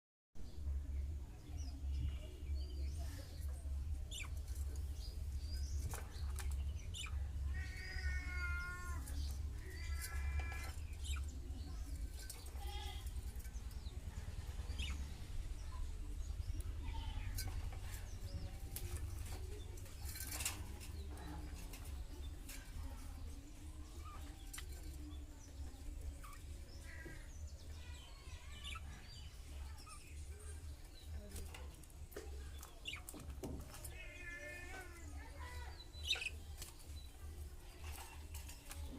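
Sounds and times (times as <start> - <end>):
budgerigars chirping and chattering: 1.6 - 38.9.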